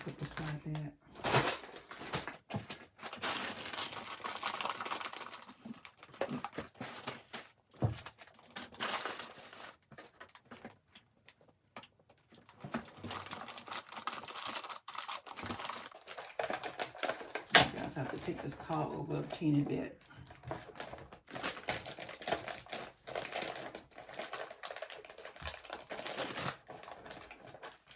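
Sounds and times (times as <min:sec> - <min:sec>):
plastic packaging crinkling: 0:00.0 - 0:11.4, 0:12.0 - 0:27.9.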